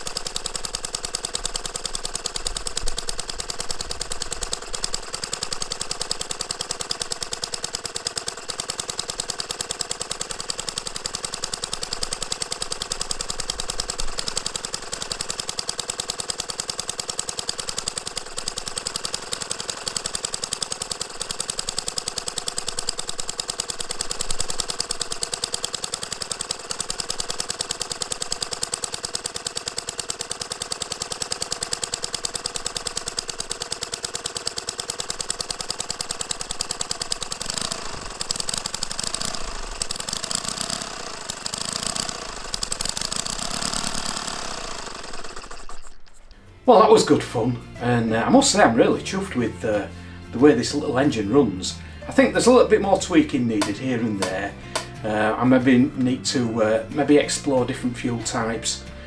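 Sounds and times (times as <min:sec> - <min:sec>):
model engine running: 0:00.0 - 0:59.0.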